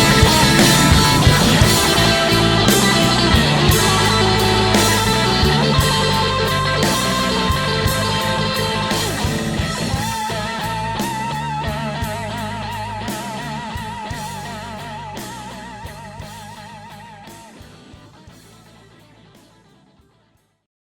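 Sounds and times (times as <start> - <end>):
blues band playing: 0.0 - 20.2.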